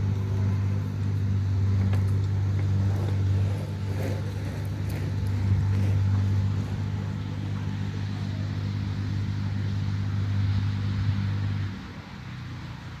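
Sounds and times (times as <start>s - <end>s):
barrier motor humming: 0.0s - 13.0s.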